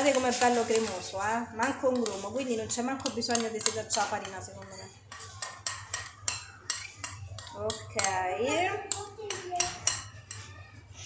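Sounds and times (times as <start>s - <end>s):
metal spoon clinking against bowl: 0.0s - 10.6s.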